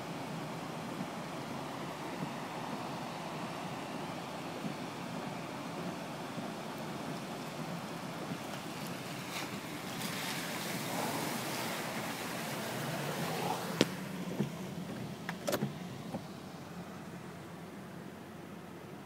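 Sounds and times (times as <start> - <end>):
car engine and tyre hum: 0.0 - 19.0.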